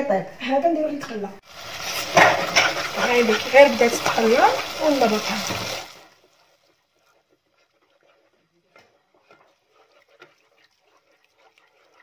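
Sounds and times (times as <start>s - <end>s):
wooden spoon stirring in pan: 1.5s - 12.0s.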